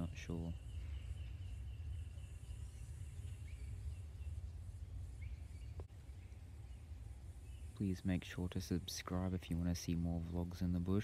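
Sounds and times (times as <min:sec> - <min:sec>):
faint bird chirps: 0:00.0 - 0:11.0
low steady rumbling: 0:00.0 - 0:11.0
steady insect tone: 0:00.0 - 0:11.0.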